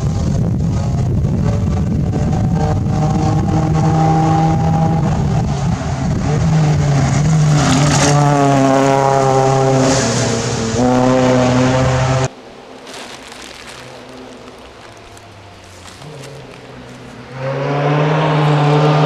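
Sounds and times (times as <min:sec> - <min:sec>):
rally car engine at full throttle: 0:00.0 - 0:12.4, 0:15.9 - 0:19.0.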